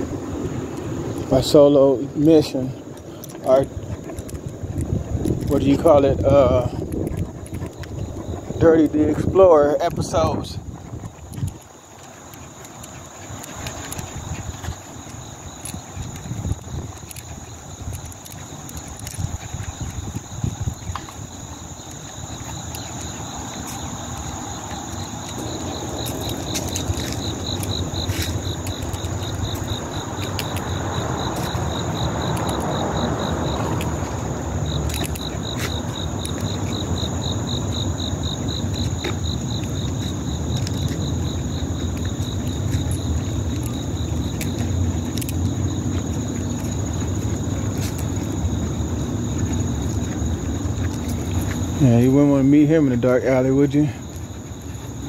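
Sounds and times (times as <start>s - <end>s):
insects humming: 0.0s - 55.0s
insect pulsing trill: 1.1s - 55.0s.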